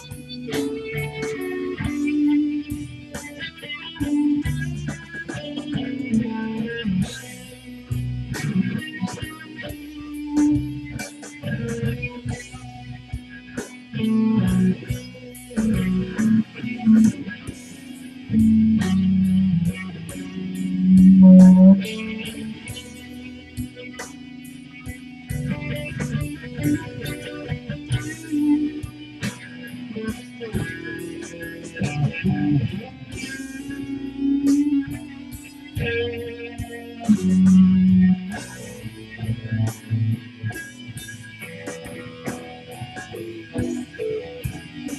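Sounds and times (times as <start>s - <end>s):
blues guitar: 0.0s - 44.9s
low bass notes: 0.0s - 44.9s.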